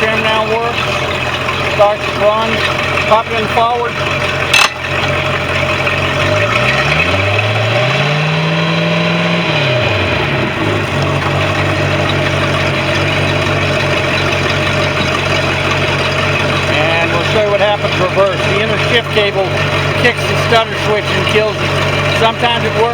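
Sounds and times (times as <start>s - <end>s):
gear engaging clunk: 0.0s - 7.5s, 10.6s - 22.9s
boat engine revving and idling: 0.0s - 22.9s.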